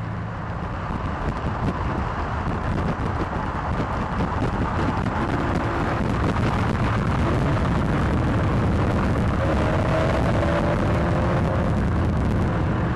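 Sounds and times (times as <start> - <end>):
moving car rumble and wind: 0.0 - 12.9.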